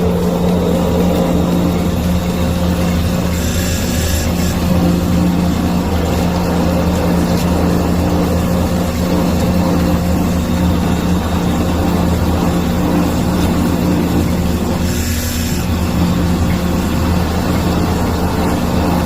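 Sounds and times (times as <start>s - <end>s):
grinding machine motor humming: 0.0s - 19.0s.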